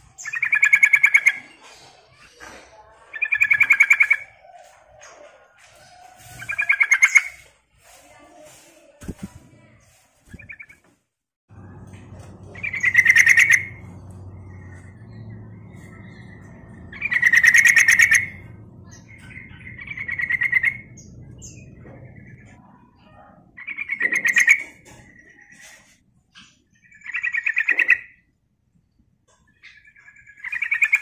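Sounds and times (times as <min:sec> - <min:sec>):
bird singing bubbling chatter: 0:00.0 - 0:07.5, 0:09.1 - 0:10.8, 0:11.6 - 0:28.4, 0:29.3 - 0:31.0.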